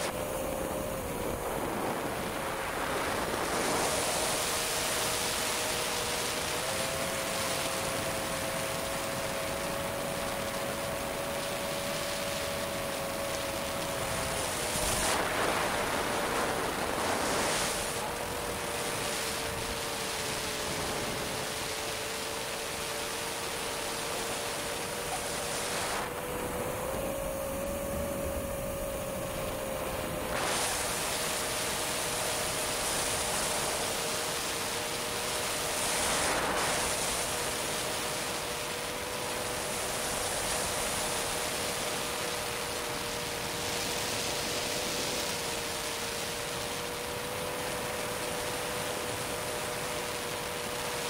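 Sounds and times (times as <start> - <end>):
quadcopter propellers humming: 0.0 - 51.0
wind rushing over camera: 0.0 - 51.0.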